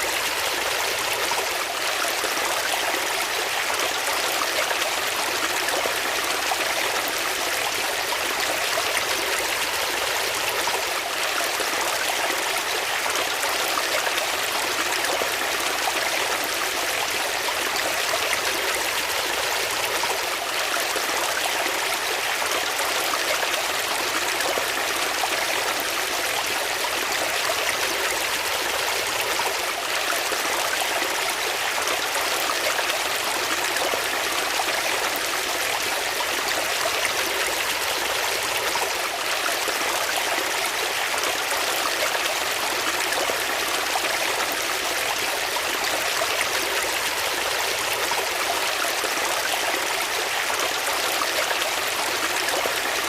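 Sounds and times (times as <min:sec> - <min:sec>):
stream water flowing: 0:00.0 - 0:53.0.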